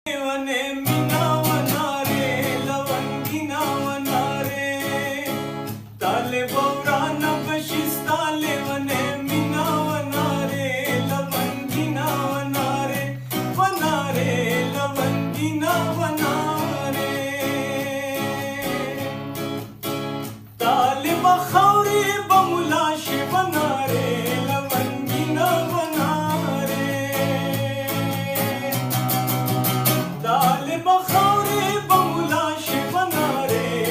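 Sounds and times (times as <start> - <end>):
person singing: 0.1 - 19.4, 20.6 - 33.9
guitar accompaniment: 0.1 - 33.9.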